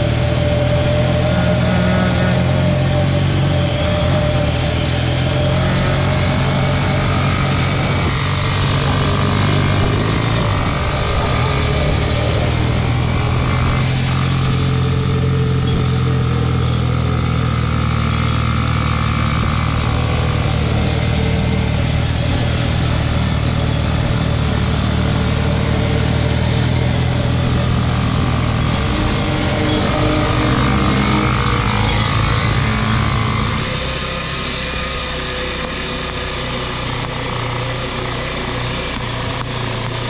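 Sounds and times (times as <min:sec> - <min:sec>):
three-wheeler engine running: 0:00.0 - 0:40.0.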